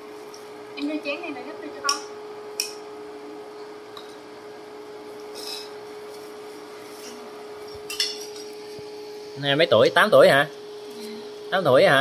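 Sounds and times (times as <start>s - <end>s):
induction cooker humming: 0.0s - 12.0s.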